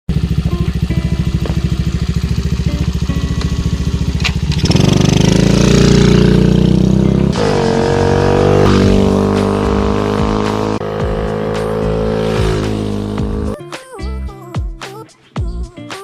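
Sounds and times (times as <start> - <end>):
motorcycle engine revving: 0.1 - 13.6.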